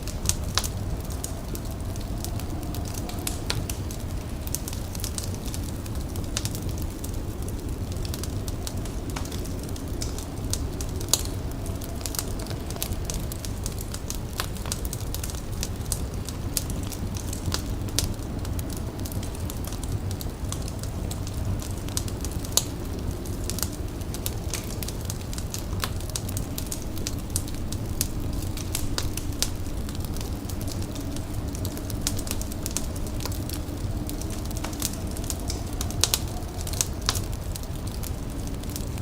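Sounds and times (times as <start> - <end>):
fire crackling and popping: 0.0 - 39.0
low rumble: 0.0 - 39.0.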